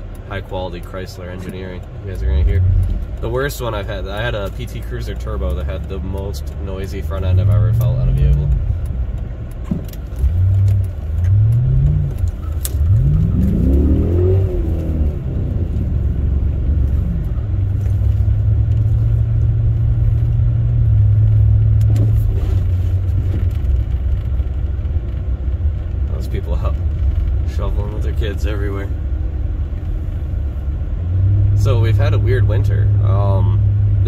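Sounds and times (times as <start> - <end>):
car engine from inside cabin: 0.0 - 34.0.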